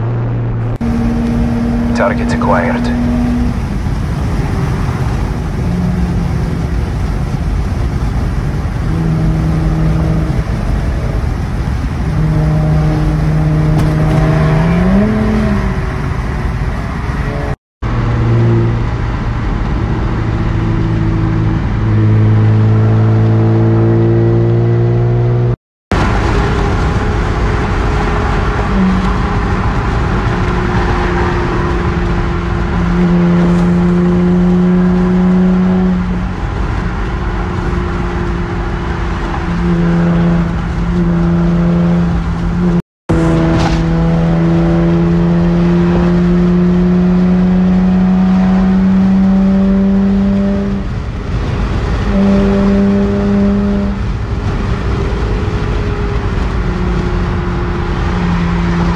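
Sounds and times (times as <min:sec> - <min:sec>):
car engine droning in cabin: 0:00.0 - 0:58.9.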